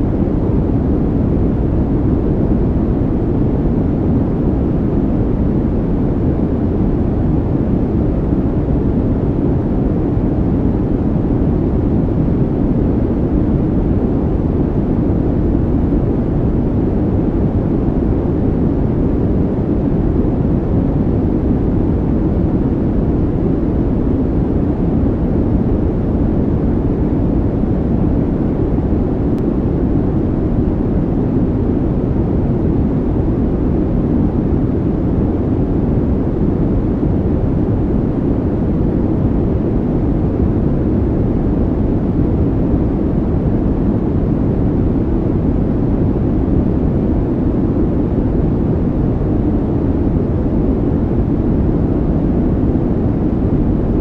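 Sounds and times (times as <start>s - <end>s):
steady low rumbling noise: 0.0s - 54.0s.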